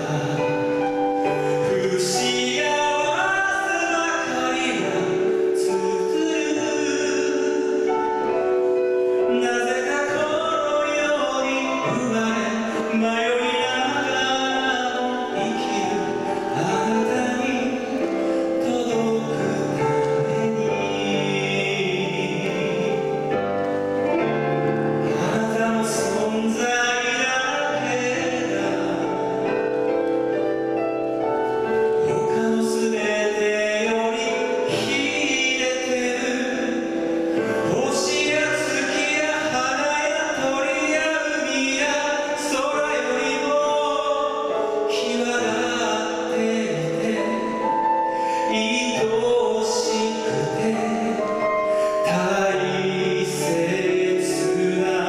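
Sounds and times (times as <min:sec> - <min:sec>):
man singing into microphone: 0:00.0 - 0:30.8, 0:31.4 - 0:55.0
karaoke backing track: 0:00.0 - 0:55.0.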